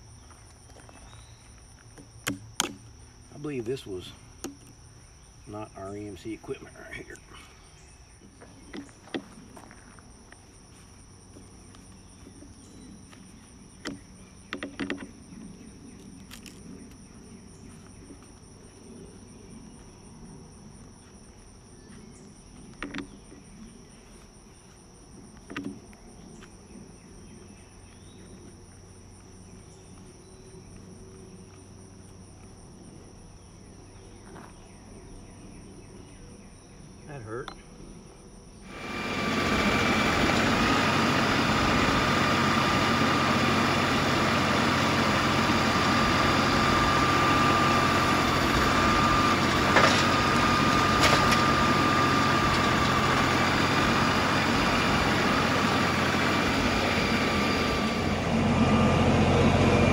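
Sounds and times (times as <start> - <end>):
crickets and insects chirring: 0.0 - 59.9.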